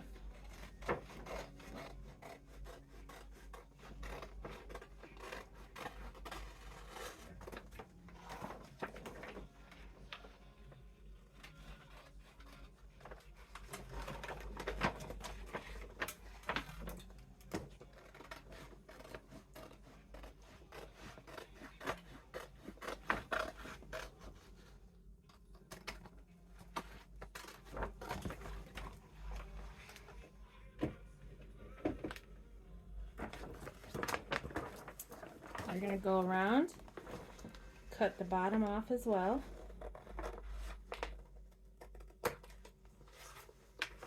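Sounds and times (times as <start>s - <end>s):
gift bag rustling and scraping: 0.0s - 25.1s, 26.4s - 30.6s, 33.0s - 44.0s.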